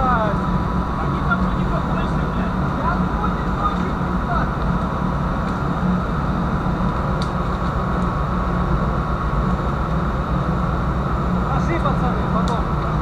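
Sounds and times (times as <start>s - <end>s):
ship machinery drone: 0.0s - 13.0s.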